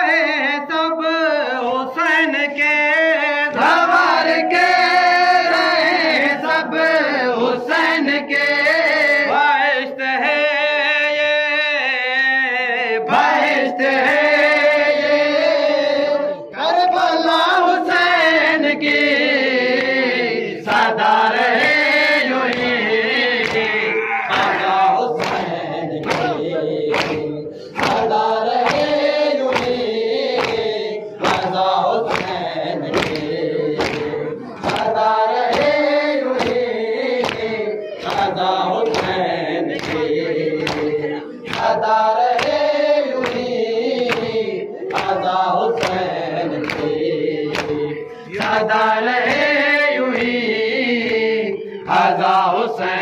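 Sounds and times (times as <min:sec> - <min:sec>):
men chanting a lament: 0:00.0 - 0:53.0.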